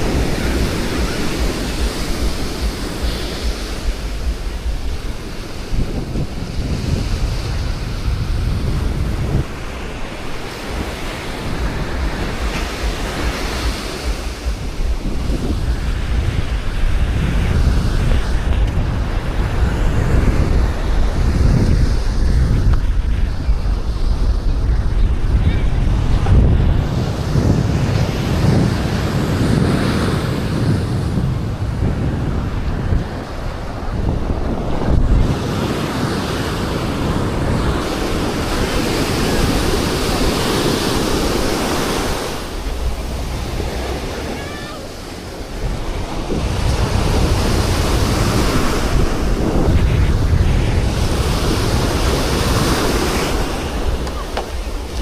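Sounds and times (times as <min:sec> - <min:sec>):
sea waves breaking on beach: 0:00.0 - 0:24.7, 0:25.5 - 0:55.0
wind buffeting microphone: 0:00.0 - 0:55.0.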